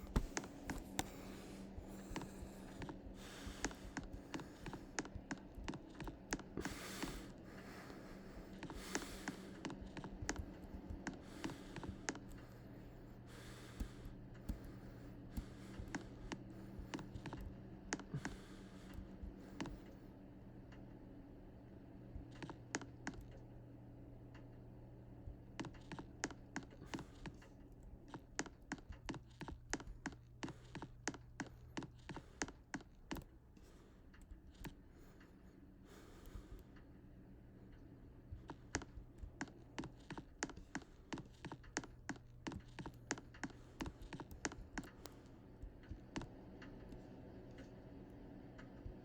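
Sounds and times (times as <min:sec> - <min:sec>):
faint low hum: 0:00.0 - 0:49.0
rapid light clicks: 0:00.0 - 0:49.0.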